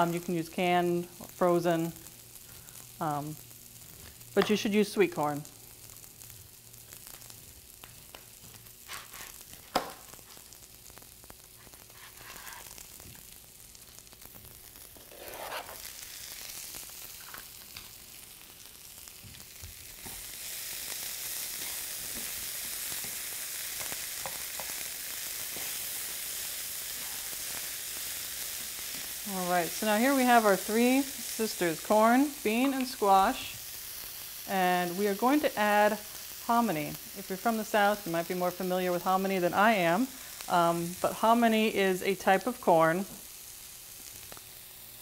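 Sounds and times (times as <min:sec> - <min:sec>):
vegetables sizzling in skillet: 0:00.0 - 0:45.0.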